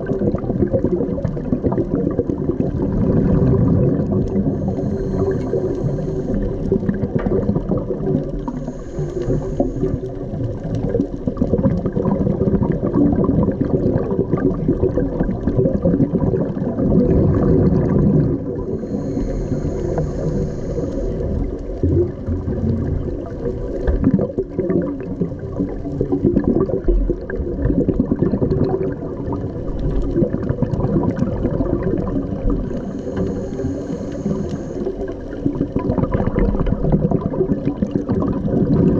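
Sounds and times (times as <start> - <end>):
underwater rush with bubbling: 0.0 - 38.9.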